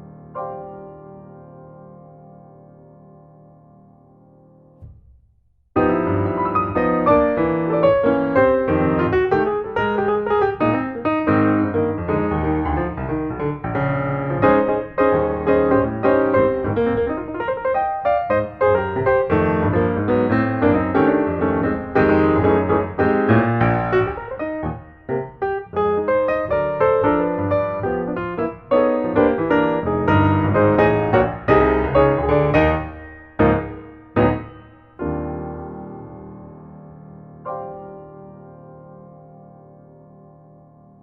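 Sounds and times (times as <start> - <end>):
fast piano music: 0.0 - 4.9, 5.8 - 41.0.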